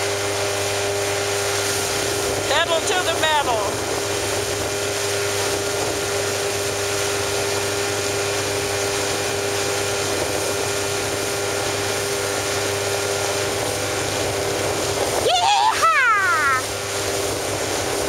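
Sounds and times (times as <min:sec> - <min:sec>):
motorboat engine running: 0:00.0 - 0:18.0
wind and water rushing: 0:00.0 - 0:18.0.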